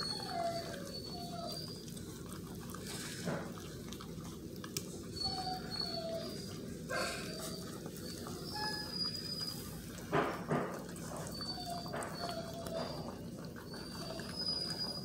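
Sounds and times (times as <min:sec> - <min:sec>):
puppies whimpering: 0:00.0 - 0:15.0.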